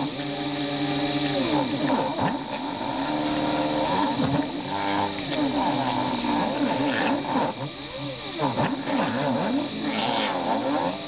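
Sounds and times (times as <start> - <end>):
milling motor engraving wood: 0.0 - 11.0
stepper motors whining: 0.0 - 11.0.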